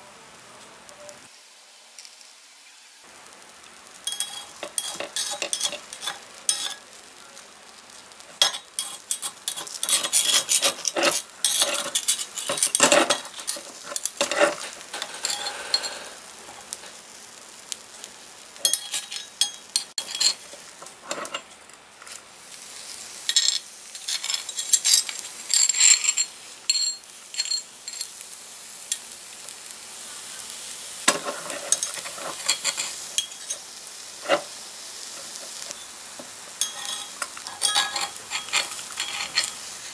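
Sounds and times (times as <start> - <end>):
batter sizzling: 0.0 - 39.9
metal spatula scraping skillet: 3.9 - 7.0, 7.8 - 22.2, 22.8 - 28.2, 30.4 - 39.9.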